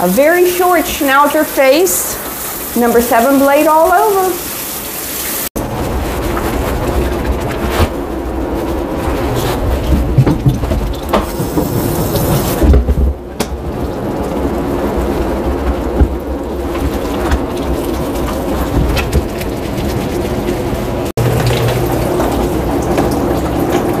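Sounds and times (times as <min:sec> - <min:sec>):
hose water splashing in a tub: 0:00.0 - 0:24.0.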